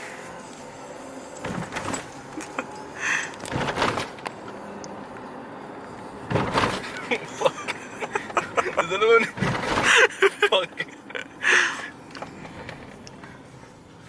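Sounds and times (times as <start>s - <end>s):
car cabin noise while driving: 0.0s - 14.0s
car knocks and rattles: 1.4s - 11.2s, 11.9s - 13.6s.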